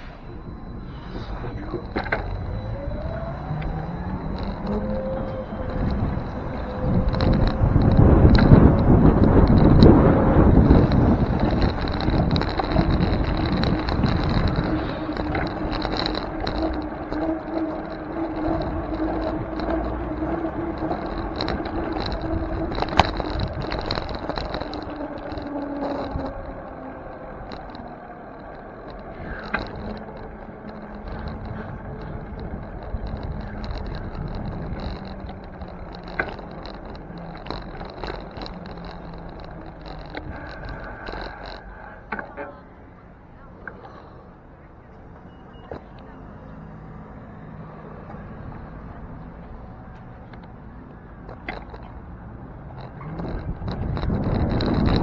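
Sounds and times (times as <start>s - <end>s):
city street traffic: 0.0s - 55.0s.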